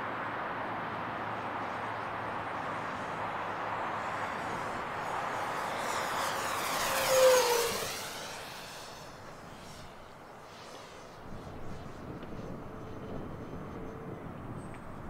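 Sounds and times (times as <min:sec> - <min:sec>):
electric motor and propeller whine: 0:00.4 - 0:15.0.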